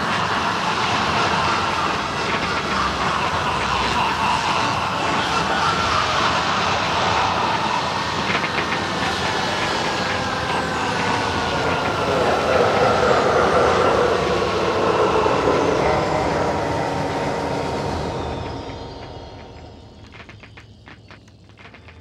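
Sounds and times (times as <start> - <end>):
loud rushing roar: 0.0 - 20.6.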